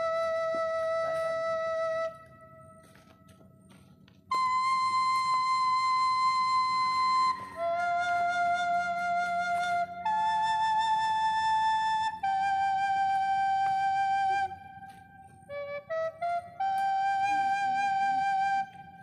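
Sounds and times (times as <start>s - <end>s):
solo flute melody: 0.0s - 19.0s.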